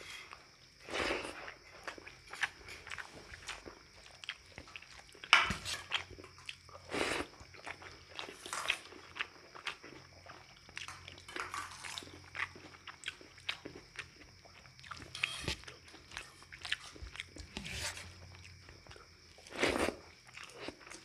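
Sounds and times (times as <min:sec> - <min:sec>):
louder eating noises: 0:00.0 - 0:21.0
chewing with wet mouth smacks: 0:01.8 - 0:05.3, 0:05.9 - 0:11.3, 0:11.9 - 0:17.6, 0:18.2 - 0:21.0.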